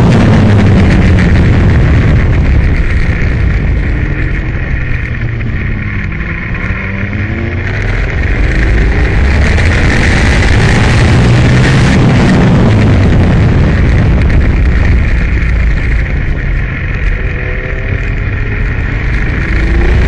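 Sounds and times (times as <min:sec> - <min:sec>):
motorcycle engine revving: 0:00.0 - 0:20.0
wind rush: 0:00.0 - 0:20.0.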